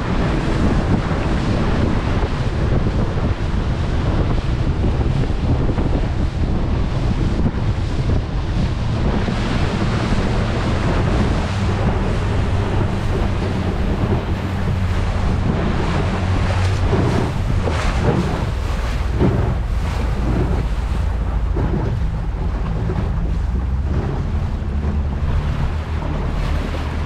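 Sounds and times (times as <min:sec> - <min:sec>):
motorboat engine humming: 0:00.0 - 0:27.0
water rushing past hull: 0:00.0 - 0:27.0
wind buffeting microphone: 0:00.0 - 0:27.0.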